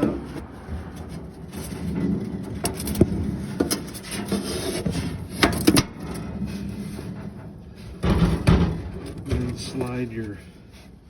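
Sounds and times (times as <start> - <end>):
steel grill parts scraping: 0.0 - 11.0.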